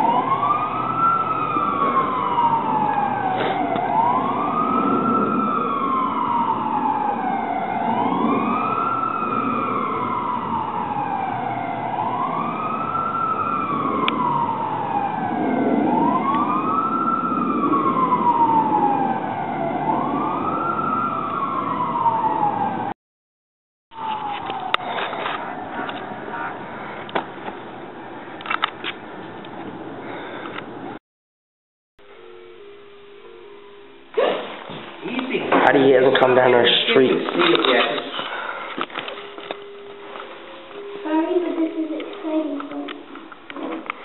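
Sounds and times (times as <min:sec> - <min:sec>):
fire engine siren wailing: 0:00.0 - 0:23.0, 0:23.9 - 0:29.2, 0:35.0 - 0:44.0.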